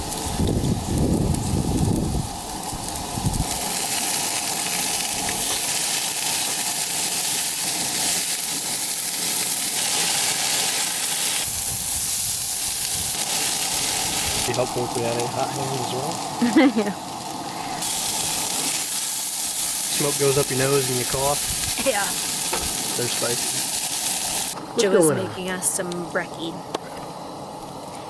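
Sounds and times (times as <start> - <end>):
potatoes sizzling in oil: 0.0 - 26.5.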